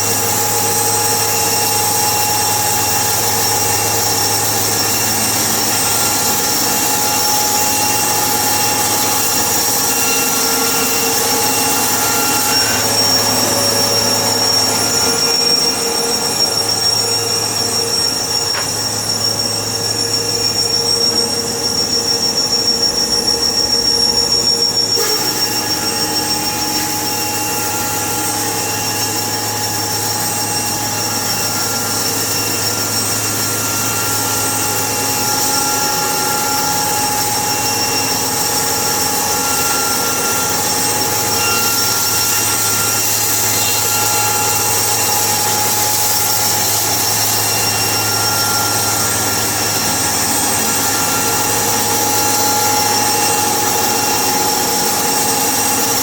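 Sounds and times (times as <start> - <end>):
sawmill machine whine: 0.0 - 56.0.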